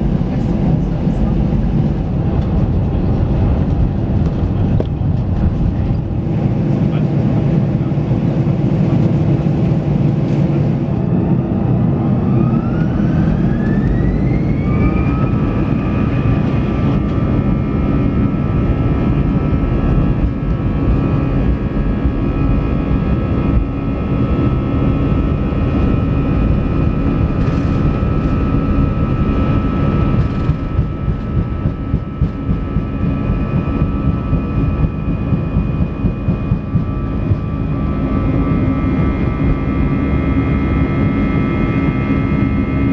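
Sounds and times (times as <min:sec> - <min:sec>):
jet engine whine spooling up: 0:00.0 - 0:42.9
jet engines roaring: 0:00.0 - 0:42.9.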